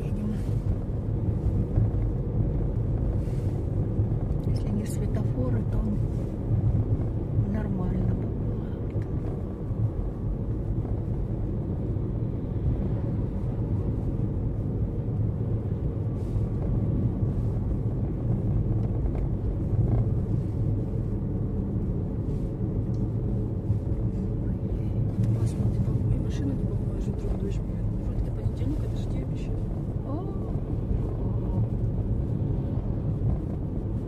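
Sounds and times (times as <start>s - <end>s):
car driving rumble from inside: 0.0s - 34.0s.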